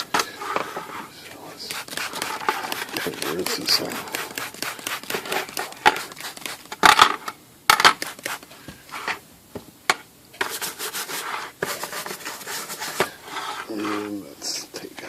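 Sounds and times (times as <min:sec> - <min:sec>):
plastic rubbing and scratching: 0:00.0 - 0:09.2, 0:10.4 - 0:14.2.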